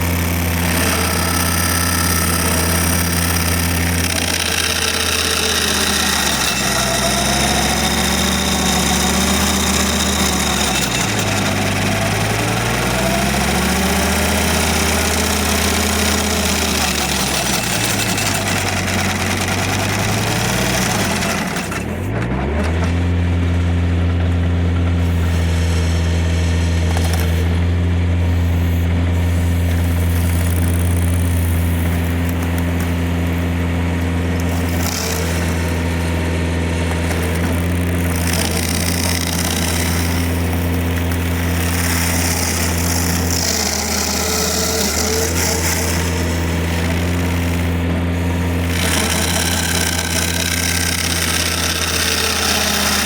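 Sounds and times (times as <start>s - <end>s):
stump grinder grinding: 0.0s - 53.0s
tractor engine at high revs: 0.0s - 53.0s.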